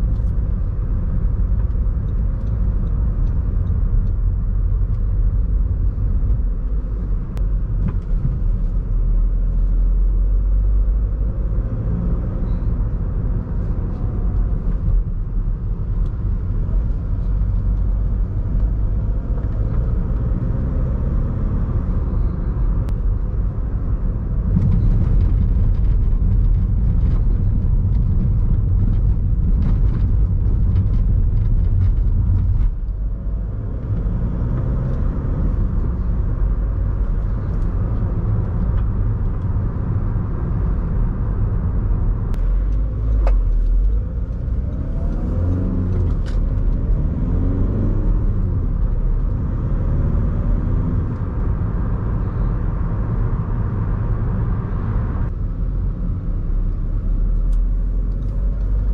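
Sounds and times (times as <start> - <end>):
car engine and road rumble: 0.0 - 58.9.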